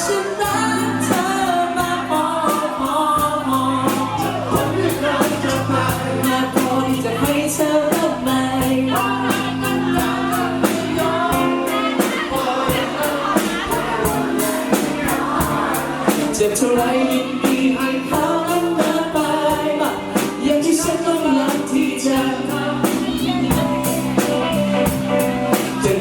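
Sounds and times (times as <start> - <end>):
bass line: 0.0 - 26.0
crowd singing: 0.0 - 26.0
live pop band playing: 0.0 - 26.0.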